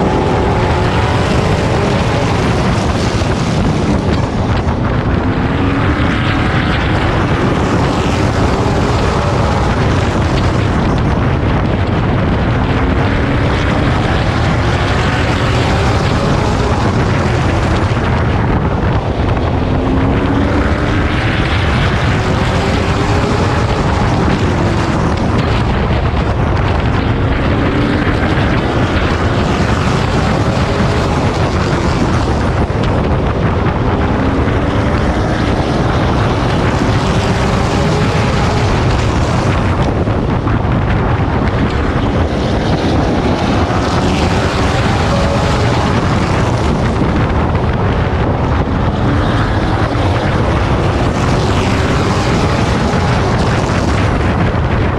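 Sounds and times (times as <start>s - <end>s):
truck engine running hard: 0.0s - 54.9s
wind noise on microphone: 0.0s - 54.9s.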